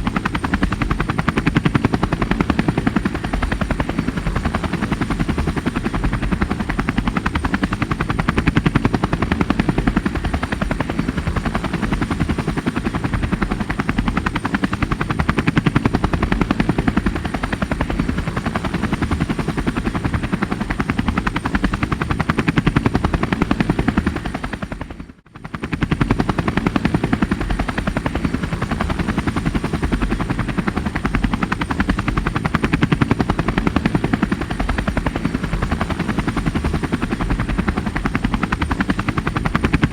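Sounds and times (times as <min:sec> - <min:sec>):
helicopter rotor chop and engine: 0:00.0 - 0:39.9.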